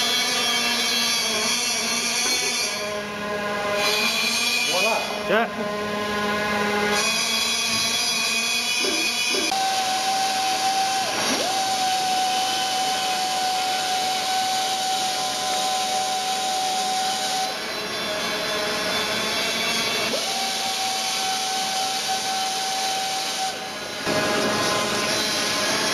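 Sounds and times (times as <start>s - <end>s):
die grinder whine: 0.0s - 25.9s.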